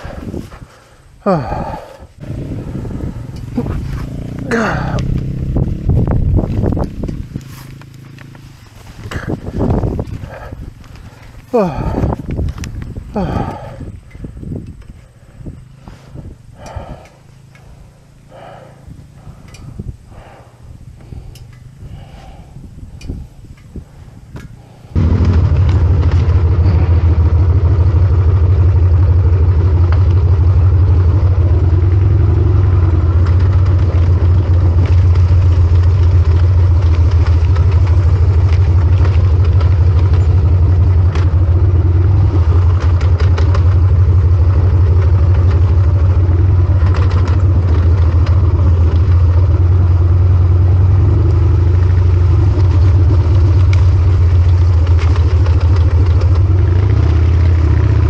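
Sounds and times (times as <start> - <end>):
motorcycle engine through open exhaust: 0.0 - 58.0.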